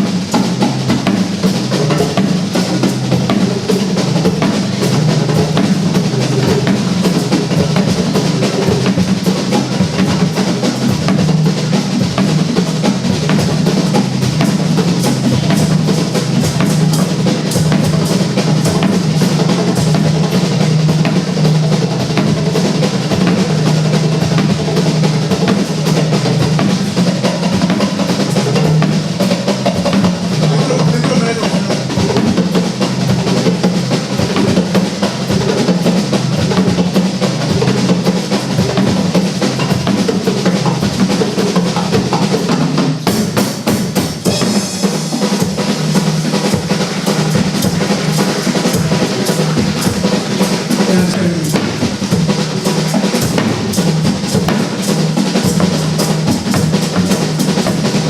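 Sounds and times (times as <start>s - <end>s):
steady low bass: 0.0s - 42.8s, 45.5s - 58.0s
fast drumming on drum kit: 0.0s - 58.0s.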